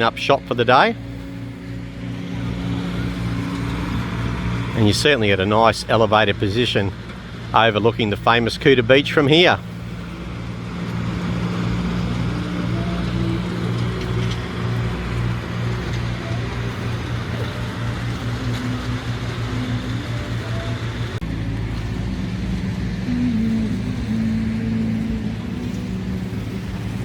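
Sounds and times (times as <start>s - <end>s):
motor humming: 0.0s - 7.6s, 8.3s - 27.0s
outdoor noise: 0.0s - 27.0s.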